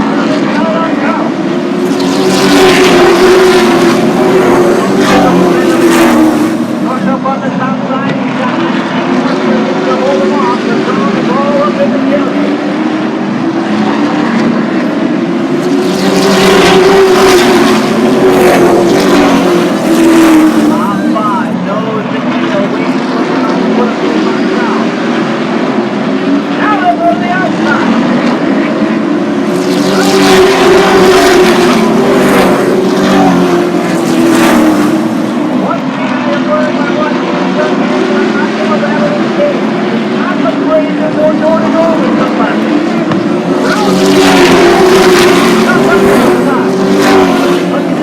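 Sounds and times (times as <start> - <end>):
race truck engines: 0.0 - 48.0.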